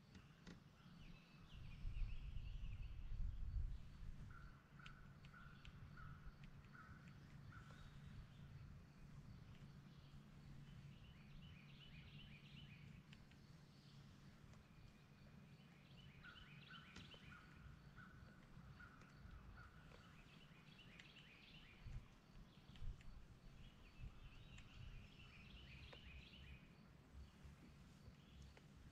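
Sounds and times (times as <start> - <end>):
birds chirping: 0.0 - 28.9
low steady rumble: 0.3 - 28.9.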